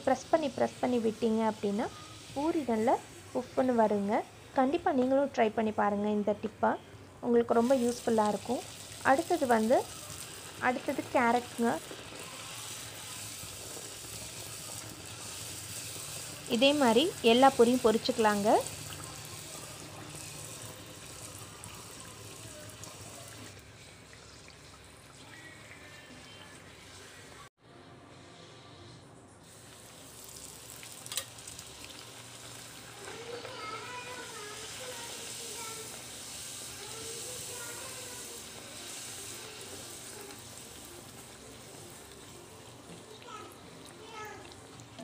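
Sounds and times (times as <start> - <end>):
deep-frying sizzle in hot oil: 0.0 - 6.0, 7.3 - 27.4, 29.4 - 45.0.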